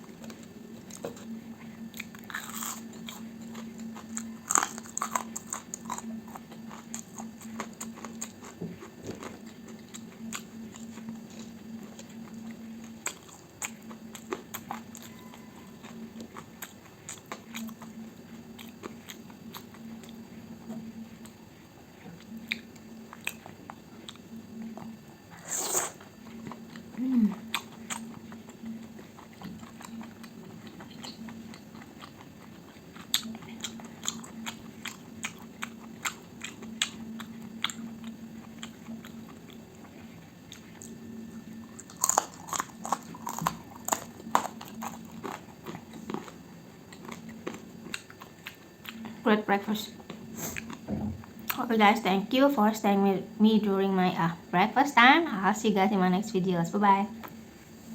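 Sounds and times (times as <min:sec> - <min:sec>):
chewing crunchy food: 0:00.0 - 0:51.7.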